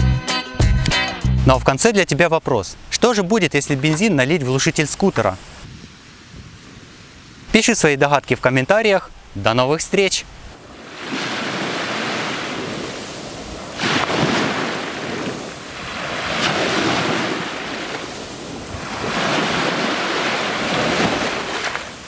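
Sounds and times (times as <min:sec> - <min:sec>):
small waves washing onto beach: 0:03.6 - 0:09.4, 0:10.1 - 0:22.0.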